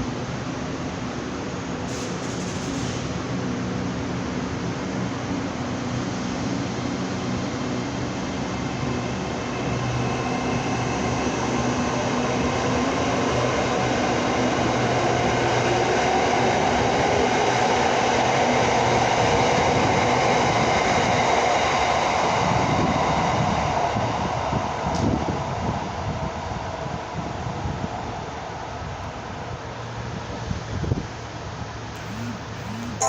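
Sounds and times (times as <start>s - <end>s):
train running along rail: 0.0s - 32.8s.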